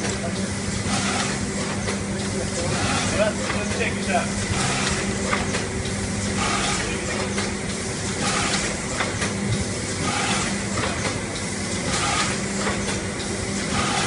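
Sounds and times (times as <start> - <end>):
machine hum and hiss: 0.0 - 14.0
machine knocks and clicks: 0.0 - 14.0.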